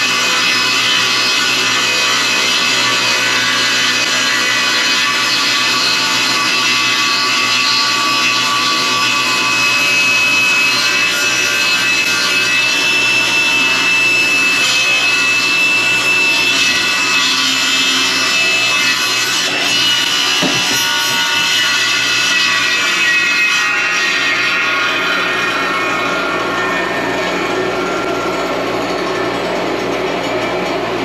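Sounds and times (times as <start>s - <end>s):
table saw ripping wood: 0.0s - 26.1s
saw blade high whine: 0.0s - 31.0s.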